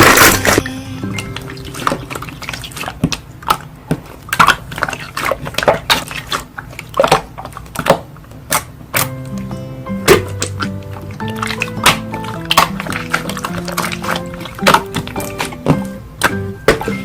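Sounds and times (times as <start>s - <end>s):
slime squeezed making wet pops: 1.4s - 17.0s.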